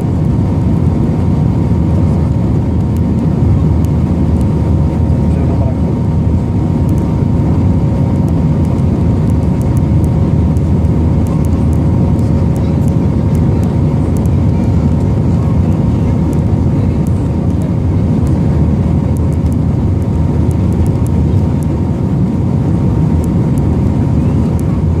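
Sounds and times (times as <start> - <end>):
engine rumble and rushing air: 0.0 - 25.0
faint steady whine: 0.0 - 25.0.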